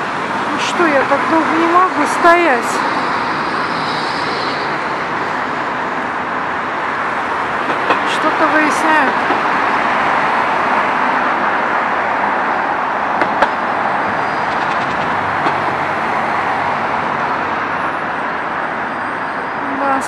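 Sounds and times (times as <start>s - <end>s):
heavy car traffic rushing: 0.0s - 20.0s.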